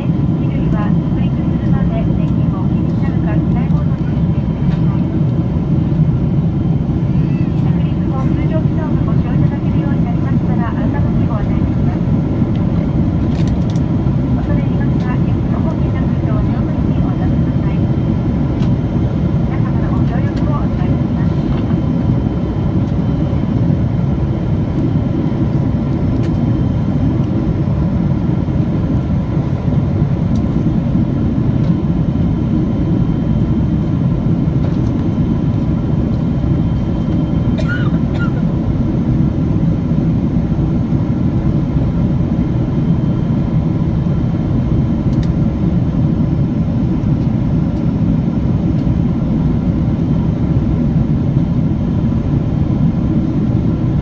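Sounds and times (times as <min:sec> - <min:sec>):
aircraft cabin engine rumble: 0:00.0 - 0:54.0
faint steady engine tones: 0:00.0 - 0:54.0.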